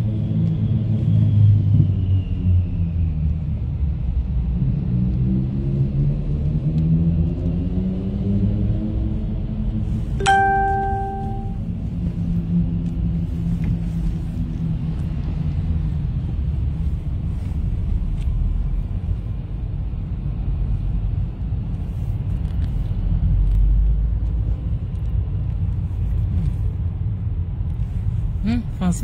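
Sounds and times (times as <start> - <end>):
engine and tyre rumble inside car: 0.0 - 29.0.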